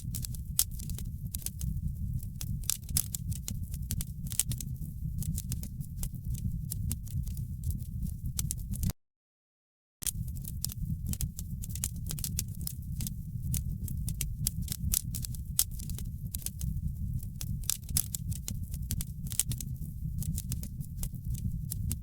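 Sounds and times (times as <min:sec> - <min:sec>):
wood fire crackling: 0:00.0 - 0:08.9, 0:10.0 - 0:22.0.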